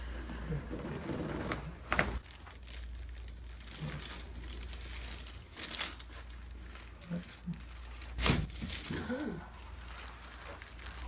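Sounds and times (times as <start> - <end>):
crinkling and rustling: 0.2 - 11.0.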